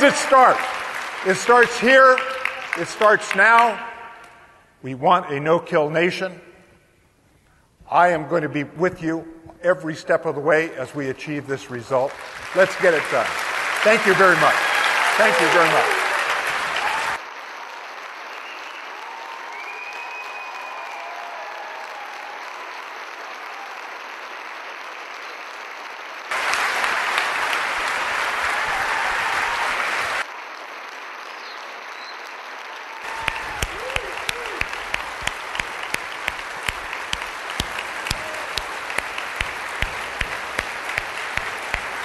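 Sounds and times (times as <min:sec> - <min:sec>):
audience applauding: 0:00.0 - 0:04.3, 0:11.7 - 0:42.0
close person clapping: 0:00.0 - 0:04.4, 0:12.0 - 0:42.0.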